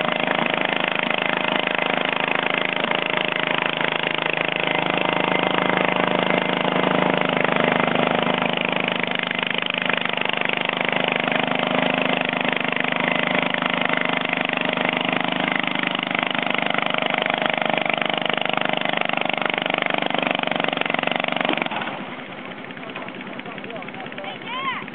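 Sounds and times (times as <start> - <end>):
garden tractor engine under load: 0.0 - 24.9.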